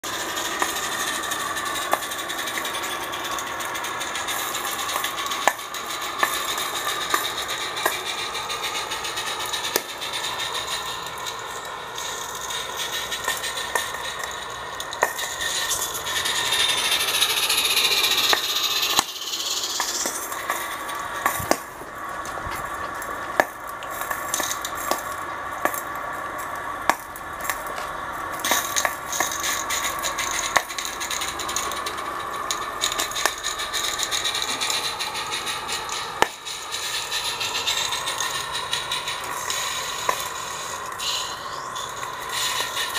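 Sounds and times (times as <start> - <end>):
model freight cars rattling: 0.0 - 42.9
wheels clicking over rail joints: 0.0 - 42.9
steam locomotive hiss: 0.1 - 42.9.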